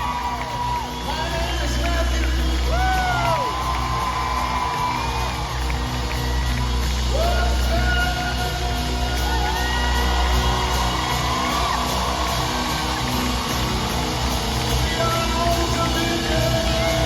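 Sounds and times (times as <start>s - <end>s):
crowd cheering and whooping: 0.0s - 17.0s
live band music: 0.0s - 17.0s.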